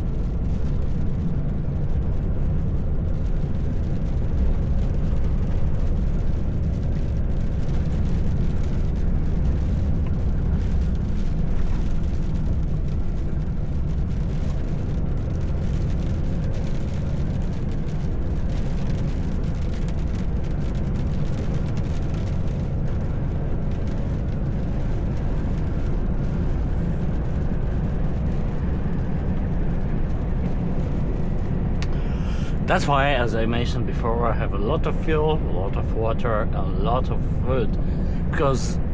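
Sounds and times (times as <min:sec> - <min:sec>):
faint steady whine: 0:00.0 - 0:38.9
truck engine drone: 0:00.0 - 0:38.9
tyre and road noise: 0:00.0 - 0:38.9.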